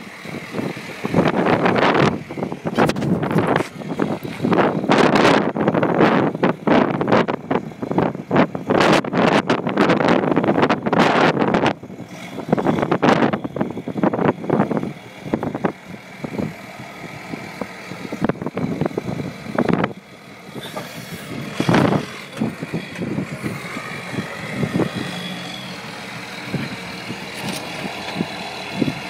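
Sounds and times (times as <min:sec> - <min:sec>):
diesel truck engine at low revs: 0:00.0 - 0:29.0.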